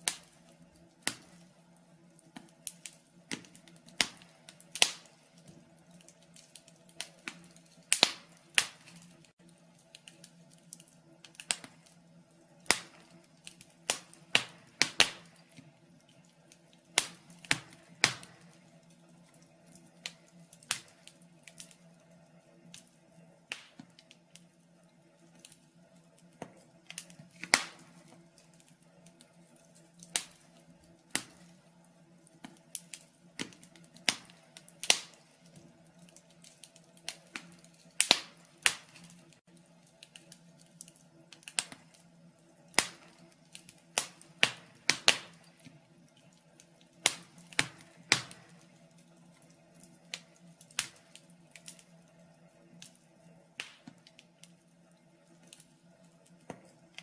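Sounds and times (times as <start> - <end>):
faint steady hum: 0.0 - 57.0
wood fire crackling and popping: 0.0 - 57.0.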